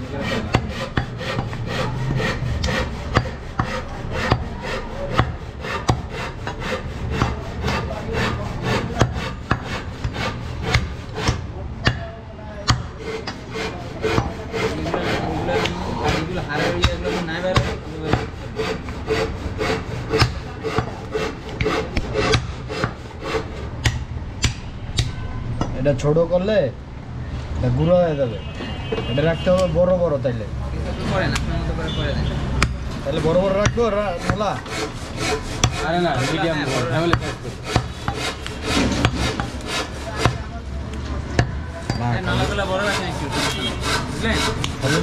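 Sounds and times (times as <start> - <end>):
blade chopping on wooden block: 0.1 - 25.2, 32.6 - 40.5, 41.3 - 45.0.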